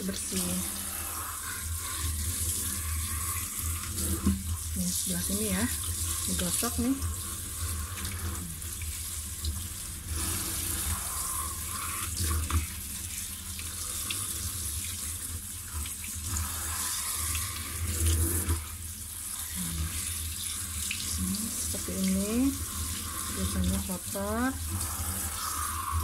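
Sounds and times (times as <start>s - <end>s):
tap water running into sink: 0.0s - 26.0s.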